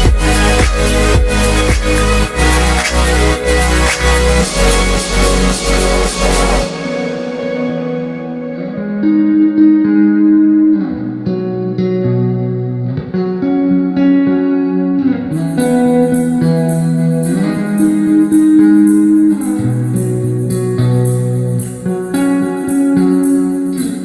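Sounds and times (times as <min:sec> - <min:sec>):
bright higher music layer: 0:00.0 - 0:12.6, 0:15.0 - 0:24.0
guitar music with steady beat: 0:00.0 - 0:24.0.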